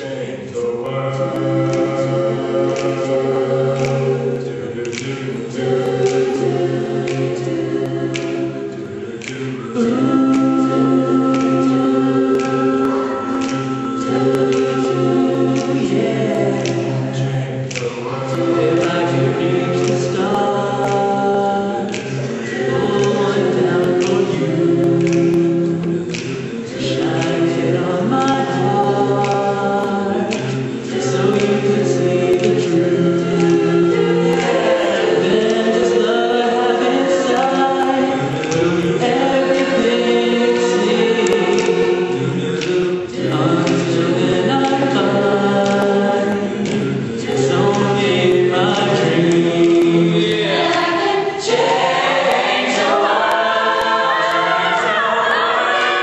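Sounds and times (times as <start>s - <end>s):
mixed chorus singing a cappella: 0.0s - 56.0s.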